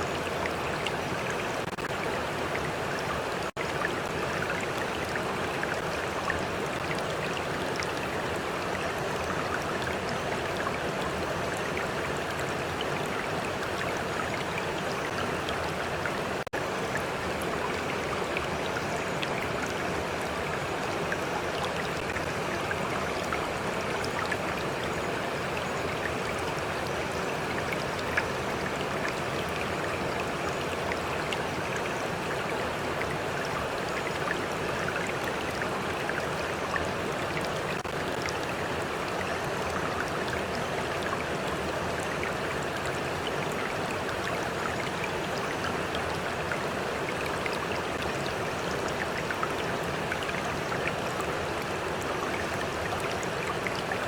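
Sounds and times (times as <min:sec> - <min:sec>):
stream flowing: 0:00.0 - 0:54.0
water trickling and splashing: 0:00.0 - 0:54.0.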